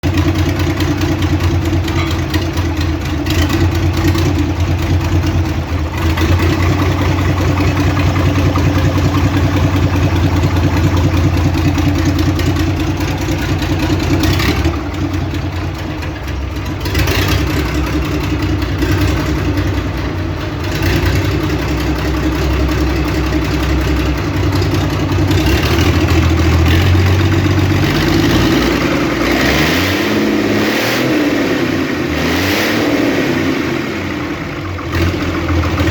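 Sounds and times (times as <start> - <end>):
diesel truck engine idling: 0.0 - 30.5, 33.9 - 35.9.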